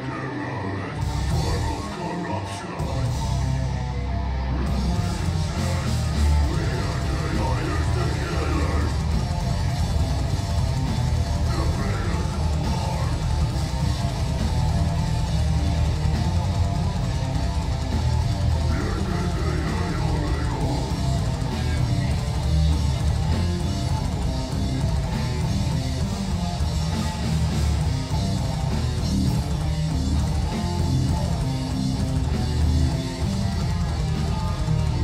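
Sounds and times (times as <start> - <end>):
bass guitar: 0.0 - 35.0
distorted electric guitars: 0.0 - 35.0
drum kit: 0.9 - 35.0.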